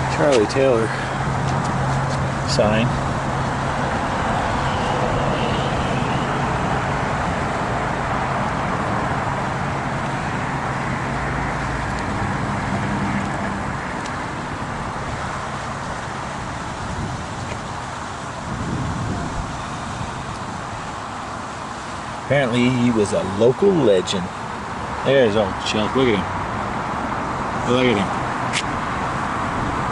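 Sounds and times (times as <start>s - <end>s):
highway traffic rushing: 0.0s - 29.9s.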